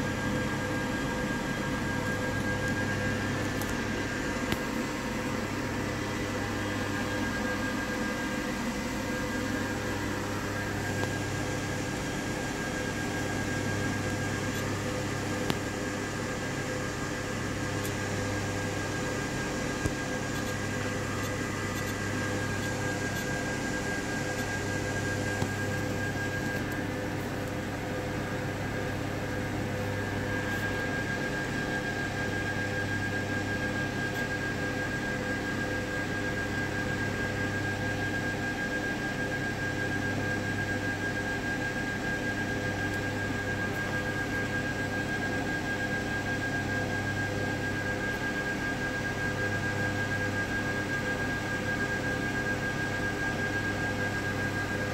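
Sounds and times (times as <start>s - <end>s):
machine hum with fan whirr: 0.0s - 54.9s.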